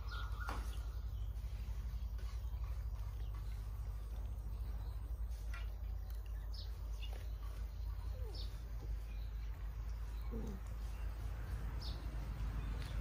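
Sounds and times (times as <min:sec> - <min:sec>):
steady low rumble: 0:00.8 - 0:13.0.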